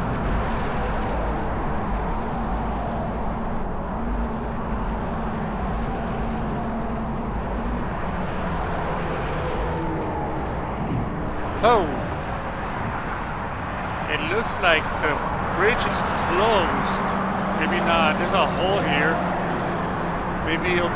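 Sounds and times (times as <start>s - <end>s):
freeway traffic rumble: 0.0s - 20.9s
wind buffeting microphone: 0.0s - 20.9s.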